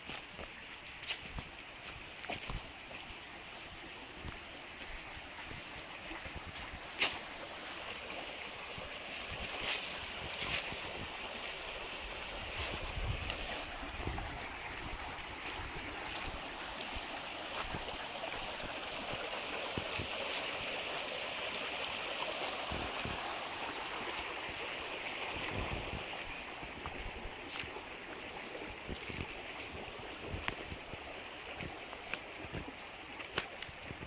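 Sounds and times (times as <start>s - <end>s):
brook babbling over stones: 0.0s - 34.0s.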